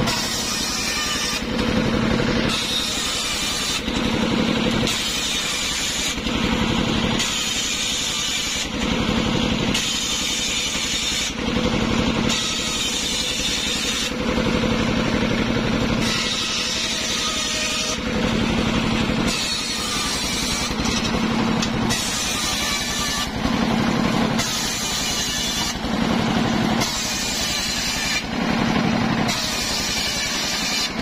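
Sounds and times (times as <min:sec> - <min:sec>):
table saw ripping wood: 0:00.0 - 0:09.0, 0:09.6 - 0:14.4, 0:15.7 - 0:31.0.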